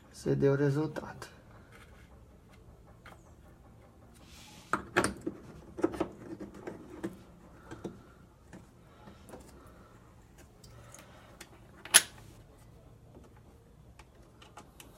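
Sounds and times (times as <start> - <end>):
parts knocking and clicking: 0.9 - 12.3, 13.0 - 14.9.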